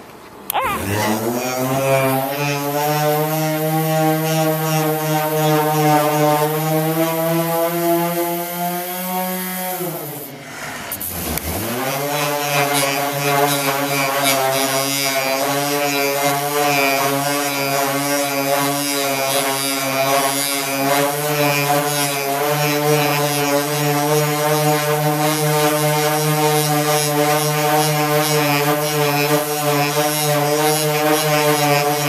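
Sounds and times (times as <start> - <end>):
orbit sander grinding paint: 0.6 - 10.2, 11.0 - 32.0.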